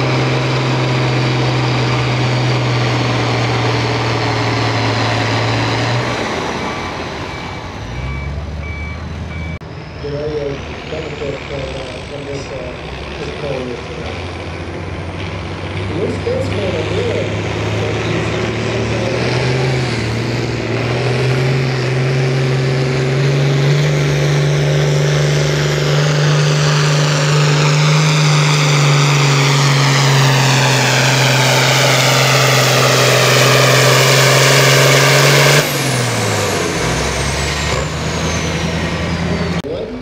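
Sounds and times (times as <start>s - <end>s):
diesel tractor engine at full throttle: 0.0s - 40.0s.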